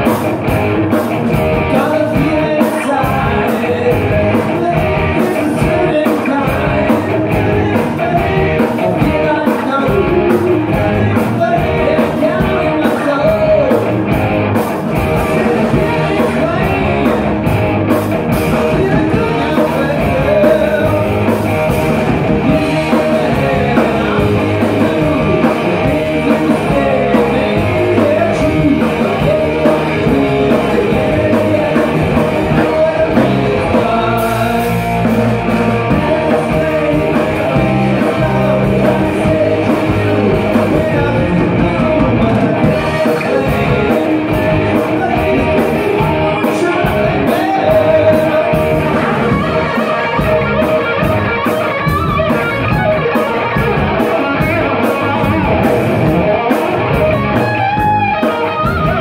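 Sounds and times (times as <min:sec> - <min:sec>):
bass guitar: 0:00.0 - 0:59.0
drum kit: 0:00.0 - 0:59.0
electric guitar: 0:00.0 - 0:59.0
lead singer singing: 0:00.9 - 0:59.0.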